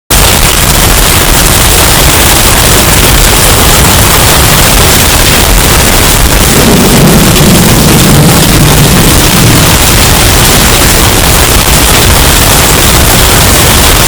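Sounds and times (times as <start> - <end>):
distorted hurricane wind: 0.1 - 14.0.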